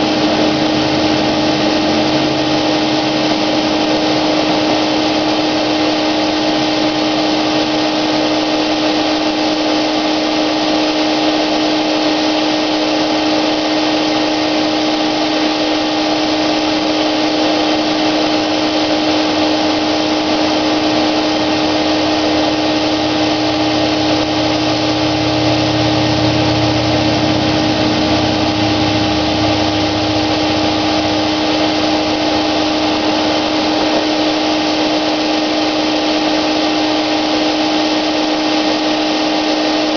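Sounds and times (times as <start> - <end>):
deeper hum: 0.0 - 39.9
paint sprayer whine and hiss: 0.0 - 39.9.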